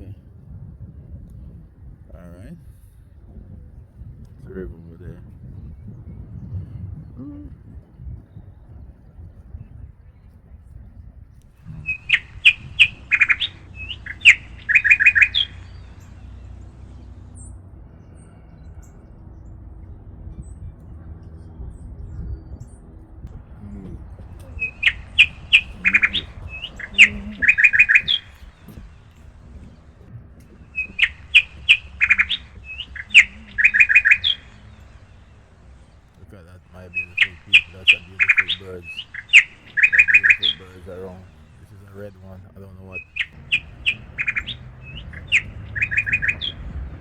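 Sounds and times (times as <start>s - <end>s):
songbird whistling song: 5.4s - 47.0s.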